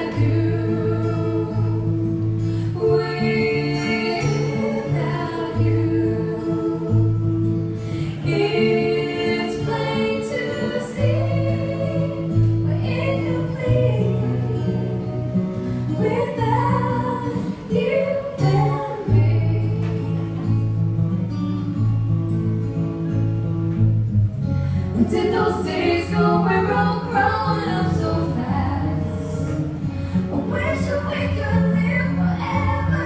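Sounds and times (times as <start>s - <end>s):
women singing wordless lines: 0.0s - 20.4s, 25.0s - 33.0s.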